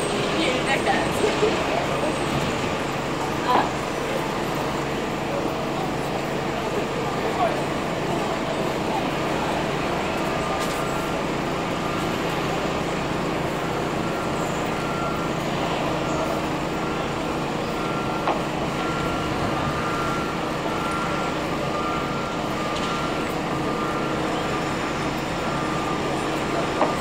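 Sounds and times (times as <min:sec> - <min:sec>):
engine hum: 0:00.0 - 0:27.0
vehicle reversing alarm beeping: 0:00.0 - 0:27.0.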